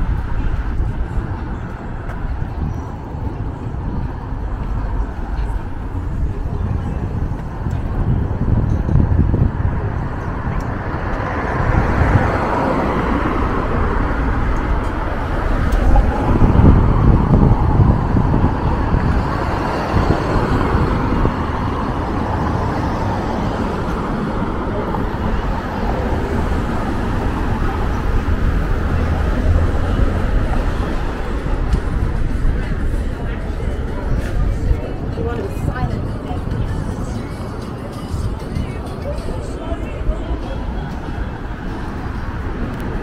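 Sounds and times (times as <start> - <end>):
cars passing: 0.0 - 43.0
loud vehicle passing: 3.2 - 43.0.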